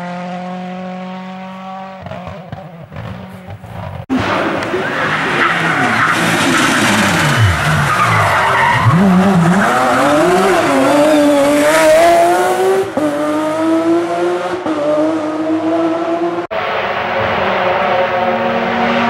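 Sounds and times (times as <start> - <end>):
car engine accelerating hard: 0.0 - 3.6, 4.2 - 19.0.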